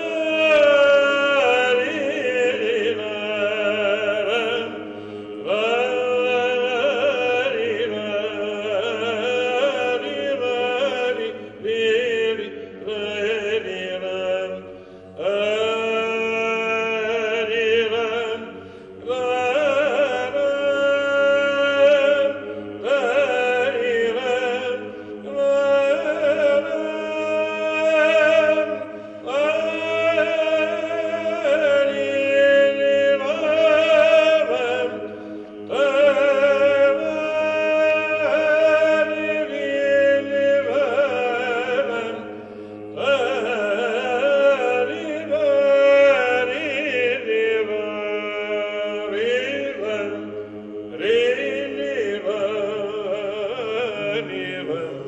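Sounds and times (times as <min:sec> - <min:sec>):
low held vocal drone: 0:00.0 - 0:55.0
man chanting melody: 0:05.4 - 0:42.3, 0:42.9 - 0:55.0.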